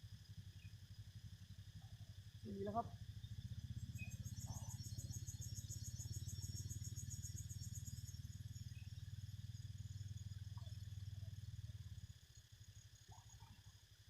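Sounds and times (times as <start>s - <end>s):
insects calling: 0.0s - 14.0s
low pulsing hum: 0.0s - 14.0s.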